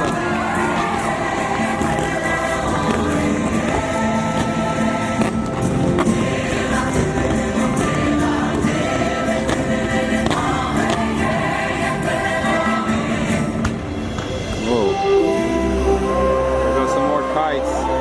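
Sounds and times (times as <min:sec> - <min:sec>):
choir singing held notes: 0:00.0 - 0:18.0
music over loudspeakers: 0:00.0 - 0:18.0.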